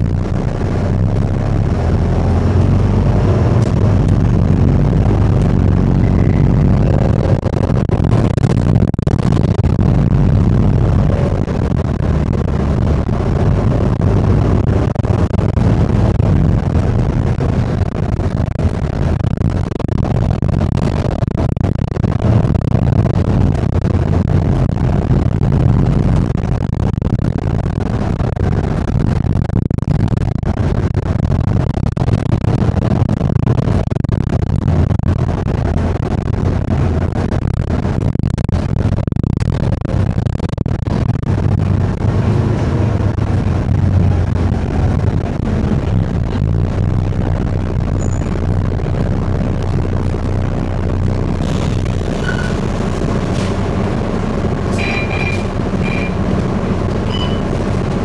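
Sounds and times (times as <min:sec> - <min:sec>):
bus engine and road drone: 0:00.0 - 0:58.0.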